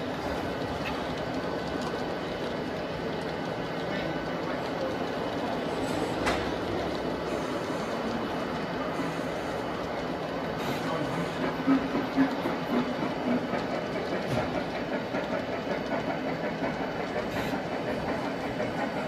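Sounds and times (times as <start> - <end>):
model train rumbling: 0.0 - 19.0.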